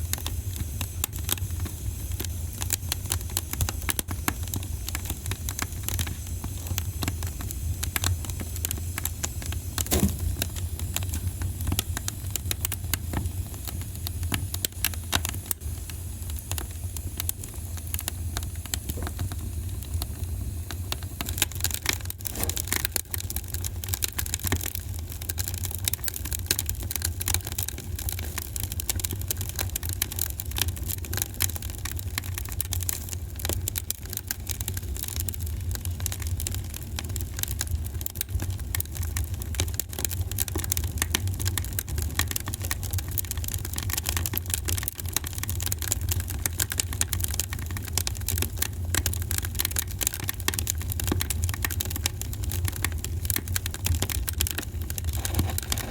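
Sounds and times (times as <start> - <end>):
low fire rumble: 0.0 - 55.9
wood fire crackling and popping: 0.0 - 55.9.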